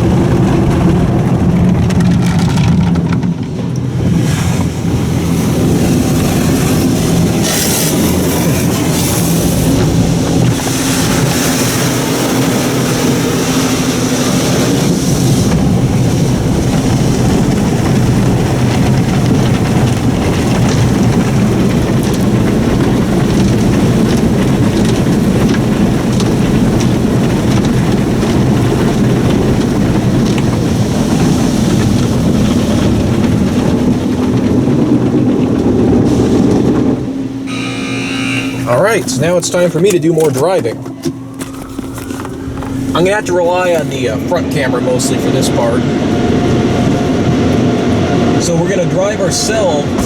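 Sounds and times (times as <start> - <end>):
cloth wash drumming on car body: 0.0 - 45.4
water spray on car: 0.0 - 45.8
car wash motors: 0.0 - 50.0.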